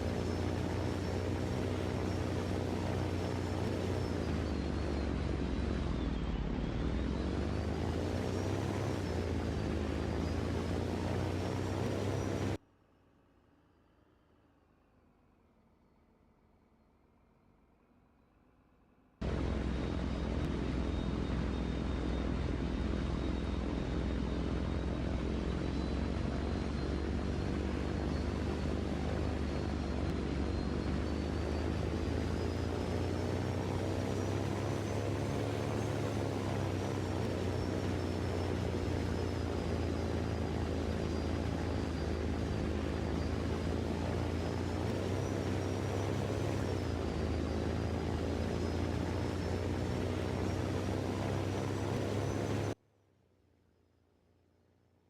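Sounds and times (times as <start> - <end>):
engine running: 0.0 - 12.6, 19.2 - 52.8.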